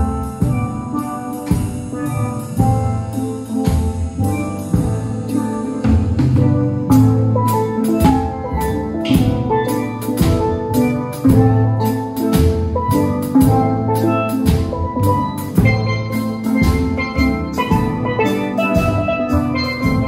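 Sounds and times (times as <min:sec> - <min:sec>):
drums keeping a beat: 0:00.0 - 0:20.0
steel pan ensemble: 0:00.0 - 0:20.0.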